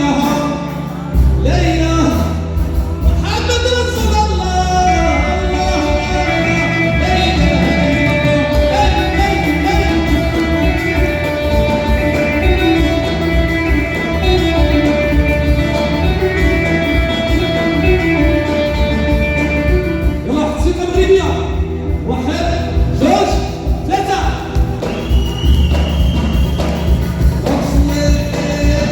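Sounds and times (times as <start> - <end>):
live band playing instrumental: 0.0 - 28.9.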